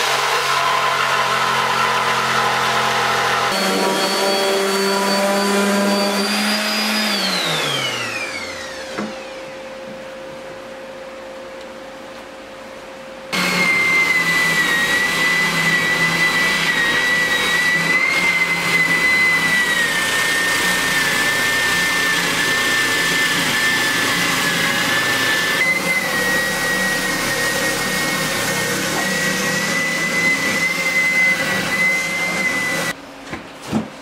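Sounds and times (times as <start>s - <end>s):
power tool motor whining: 0.0s - 9.5s, 13.4s - 33.0s.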